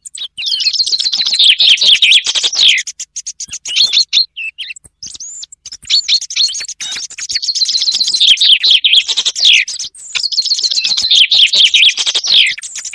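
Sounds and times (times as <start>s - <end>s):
chaffinch song trill: 0.0s - 12.9s.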